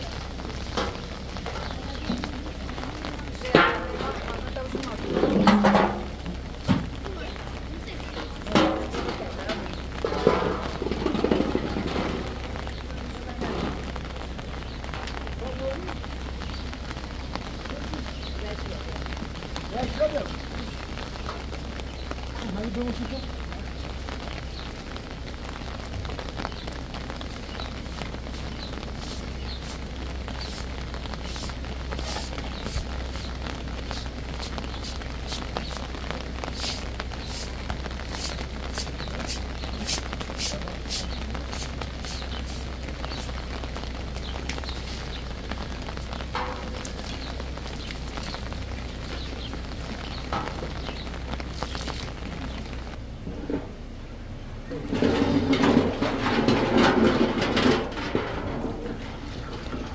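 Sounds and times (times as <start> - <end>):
water splashing and dripping: 0.0 - 53.0, 54.8 - 59.9
background hiss: 0.0 - 54.8.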